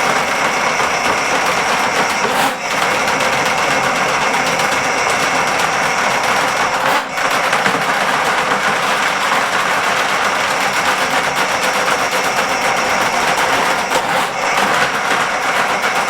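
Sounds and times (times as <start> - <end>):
drain snake motor clattering: 0.0 - 16.0.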